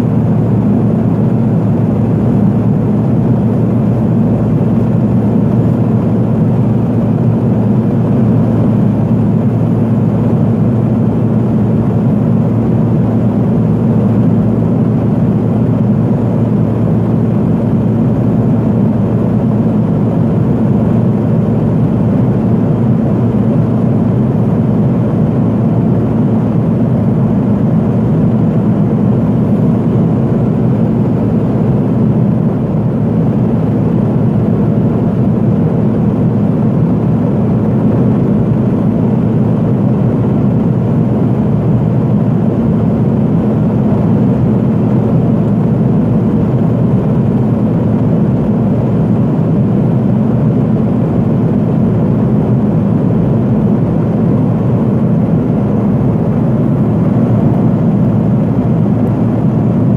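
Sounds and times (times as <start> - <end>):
aircraft cabin drone: 0.0 - 59.9.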